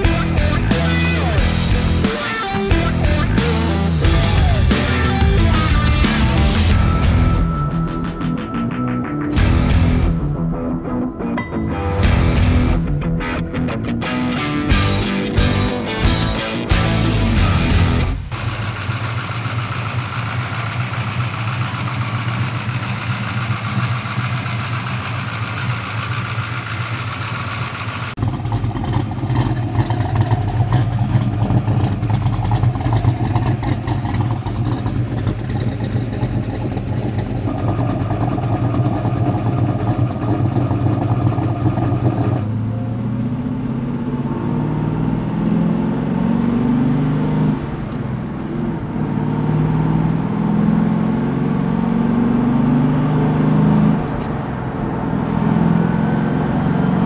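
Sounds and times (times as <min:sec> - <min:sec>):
car engine idling: 0:00.0 - 0:11.2, 0:12.0 - 0:46.0, 0:47.5 - 0:51.4
car engine accelerating: 0:00.0 - 0:57.0.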